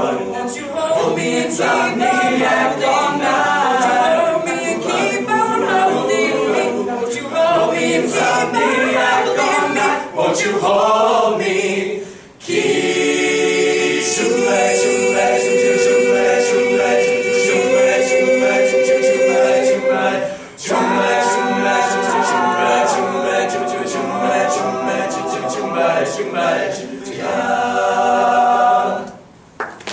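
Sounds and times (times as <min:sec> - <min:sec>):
male group singing in harmony: 0:00.0 - 0:29.2.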